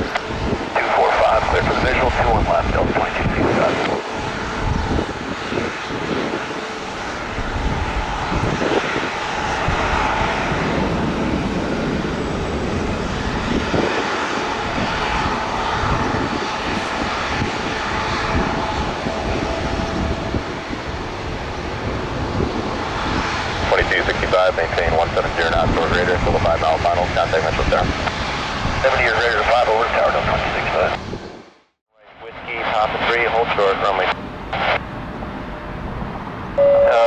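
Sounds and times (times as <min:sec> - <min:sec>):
jet engine rush with faint whine: 0:00.0 - 0:37.0.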